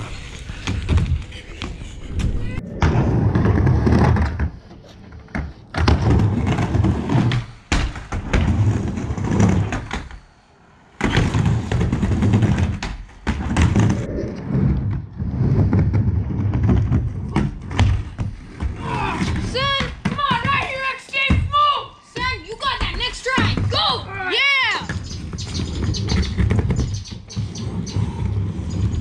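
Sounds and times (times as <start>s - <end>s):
skateboard wheels rolling on ramp: 0.0s - 21.0s, 22.2s - 29.0s
skateboard clacks and thuds: 0.5s - 10.2s, 11.0s - 14.1s, 14.8s - 21.6s, 22.2s - 24.0s, 24.8s - 29.0s.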